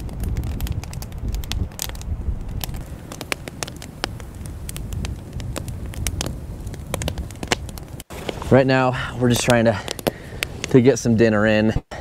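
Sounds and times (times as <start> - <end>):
burning wood popping: 0.0 - 11.7
campfire crackling: 0.0 - 11.8.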